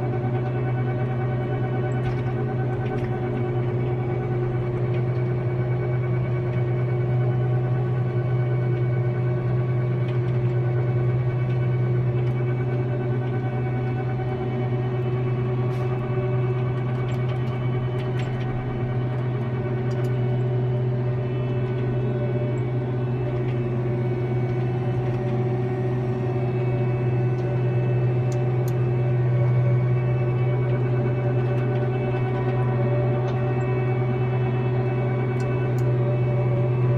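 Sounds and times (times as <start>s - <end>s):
machine engine drone: 0.0s - 36.9s.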